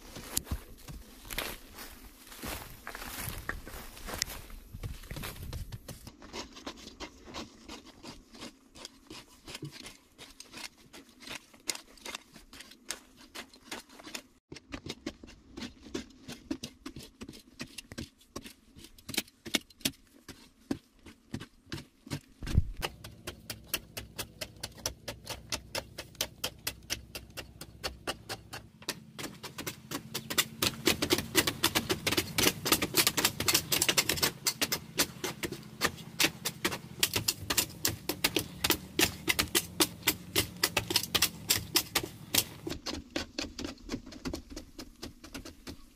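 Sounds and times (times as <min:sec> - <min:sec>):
digging tools chopping soil: 0:00.0 - 0:45.9.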